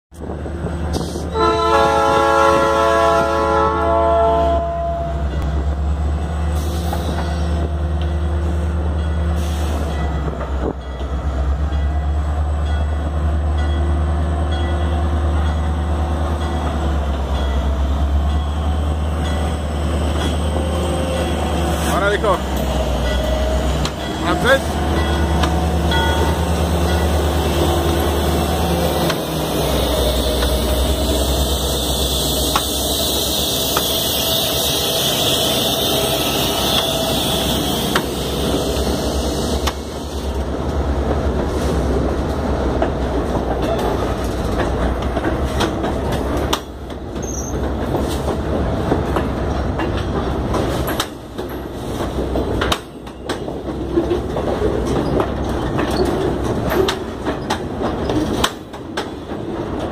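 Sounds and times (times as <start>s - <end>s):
train wheels rumbling and rattling: 0.1s - 59.9s.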